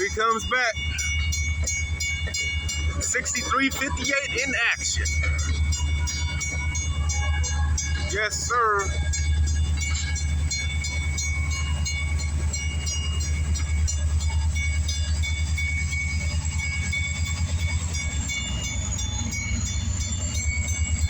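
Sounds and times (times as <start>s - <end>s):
diesel locomotive engine throbbing: 0.0s - 21.0s.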